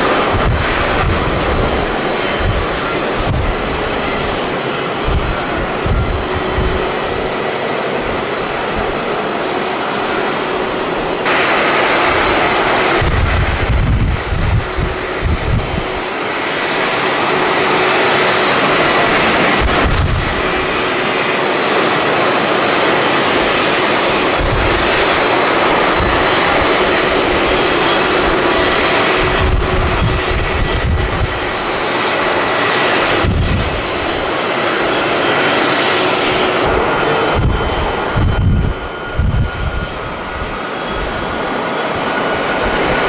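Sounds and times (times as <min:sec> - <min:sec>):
jet engines roaring: 0:00.0 - 0:43.0
wind buffeting microphone: 0:00.0 - 0:43.0.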